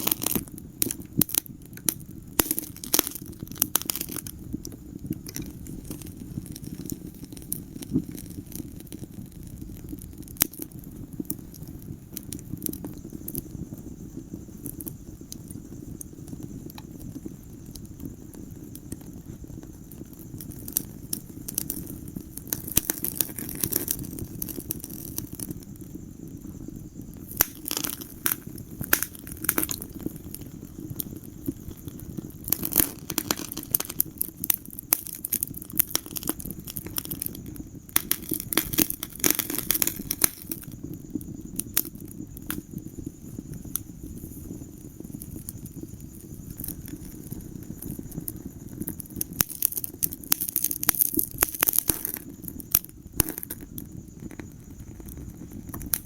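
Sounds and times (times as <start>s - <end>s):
fire snaps and pops: 0.0s - 56.0s
low rumble of flames: 0.0s - 56.0s.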